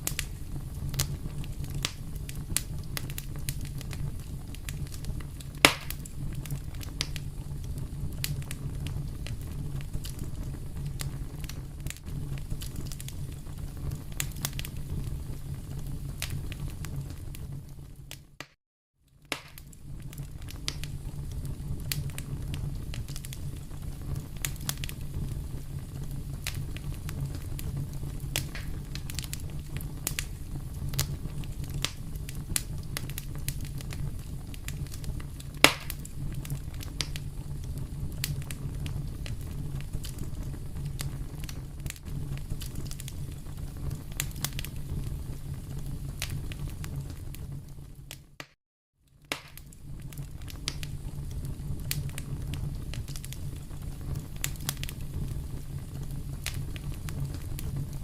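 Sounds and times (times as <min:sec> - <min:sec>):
low rumble of flames: 0:00.0 - 0:18.5, 0:19.1 - 0:48.4, 0:49.0 - 0:58.0
fire crackling and popping: 0:00.0 - 0:58.0.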